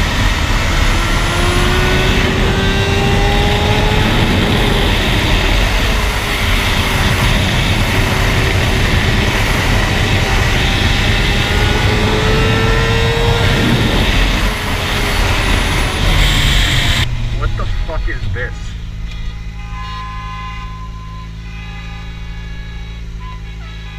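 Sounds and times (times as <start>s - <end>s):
motorcycle engine rising and falling: 0.0s - 23.9s.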